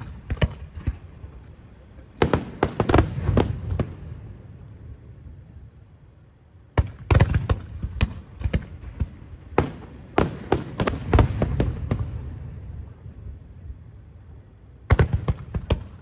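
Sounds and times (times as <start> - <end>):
fireworks bursting: 0.0 - 5.5, 6.7 - 13.4, 14.8 - 16.0.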